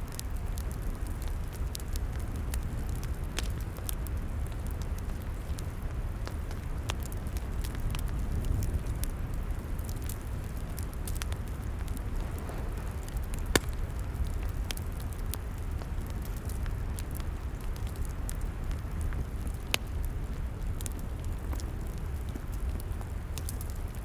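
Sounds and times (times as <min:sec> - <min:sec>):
fire popping: 0:00.0 - 0:24.0
log fire crackling: 0:00.0 - 0:24.0.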